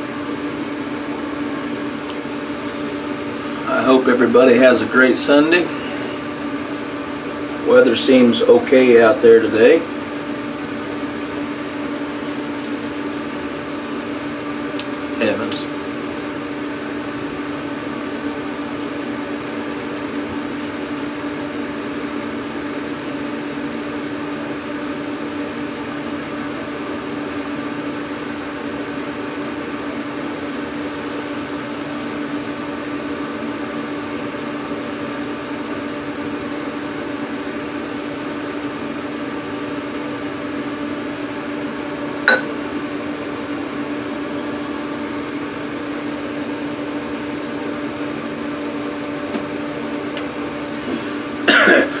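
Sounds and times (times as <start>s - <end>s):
steady motor hum: 0.0s - 52.0s.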